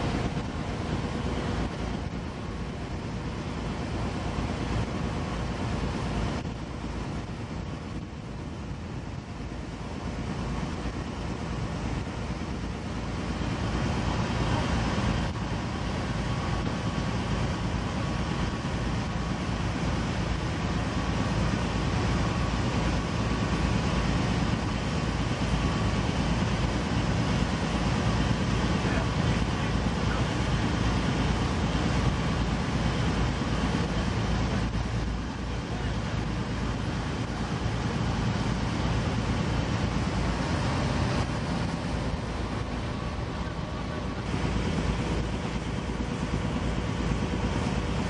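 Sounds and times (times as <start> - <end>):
boat engine rumble: 0.0 - 48.0
rush of wind and water: 0.0 - 48.0.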